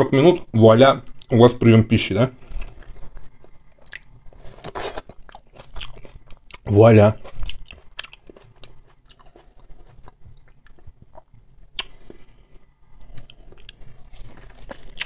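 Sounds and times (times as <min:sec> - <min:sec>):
man chewing food: 0:02.4 - 0:15.0.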